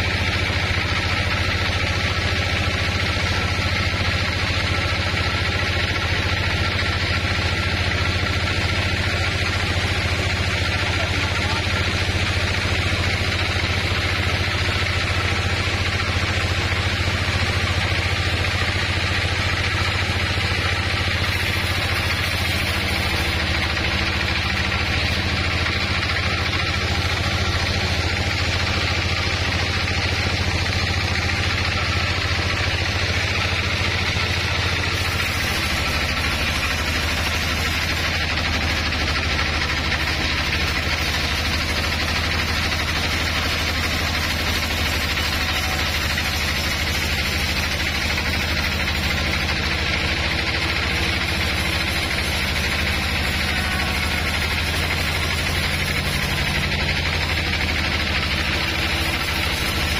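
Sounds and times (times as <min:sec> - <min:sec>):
band sawmill humming: 0:00.0 - 0:59.9.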